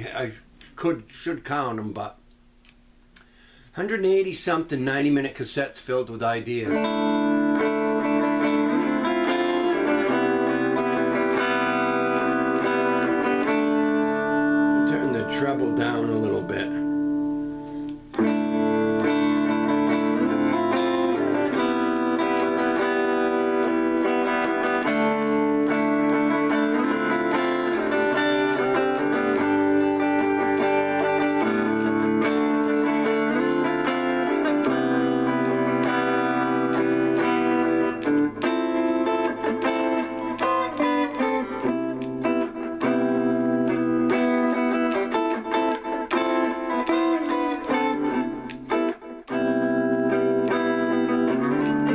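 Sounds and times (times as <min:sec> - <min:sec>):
clean electric guitar playing: 0:06.3 - 0:51.9.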